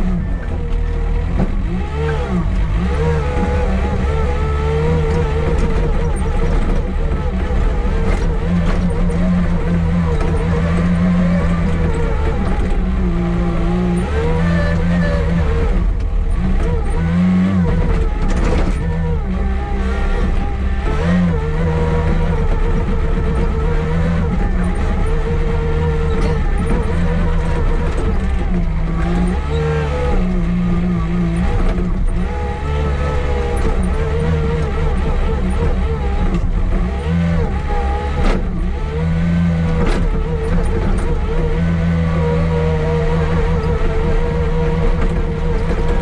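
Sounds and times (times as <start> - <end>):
diesel engine under load: 0.0 - 46.0.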